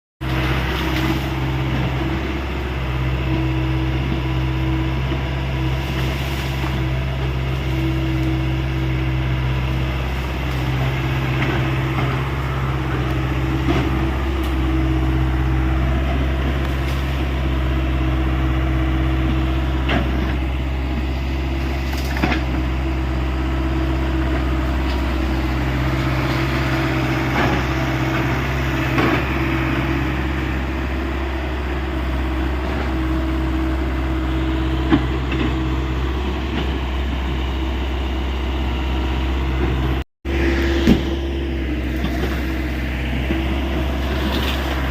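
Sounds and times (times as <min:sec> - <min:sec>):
excavator diesel engine running: 0:00.2 - 0:44.9.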